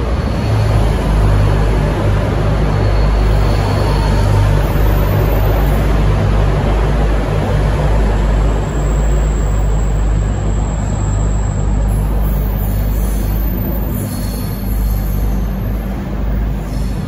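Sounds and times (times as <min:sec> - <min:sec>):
diesel engines droning: 0:00.0 - 0:17.0
train wheels rumbling on rail: 0:00.0 - 0:17.0.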